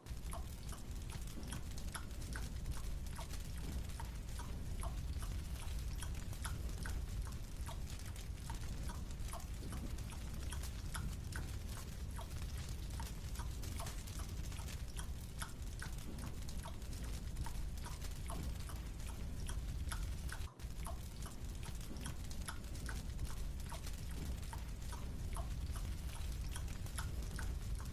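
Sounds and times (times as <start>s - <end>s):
steady low rumble: 0.0s - 27.9s
chewing clicks: 0.1s - 27.9s.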